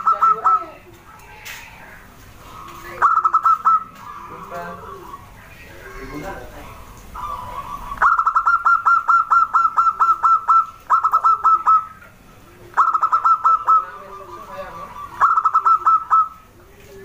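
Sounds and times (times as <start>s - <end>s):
dove calling in rapid notes: 0.0s - 17.0s.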